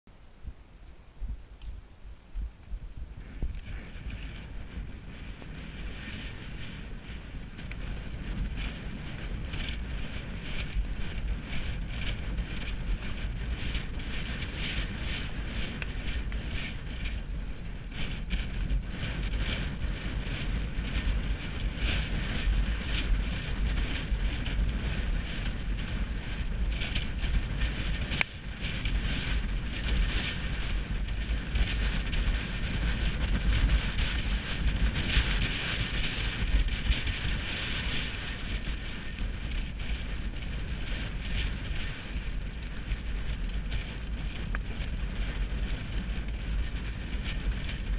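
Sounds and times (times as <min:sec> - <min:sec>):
wind buffeting microphone: 0:00.2 - 0:47.9
horse hoofbeats galloping on turf: 0:01.2 - 0:47.9.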